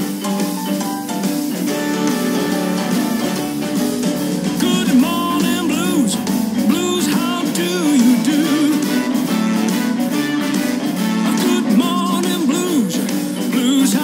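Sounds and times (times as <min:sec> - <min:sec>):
guitar-led song: 0:00.0 - 0:14.0.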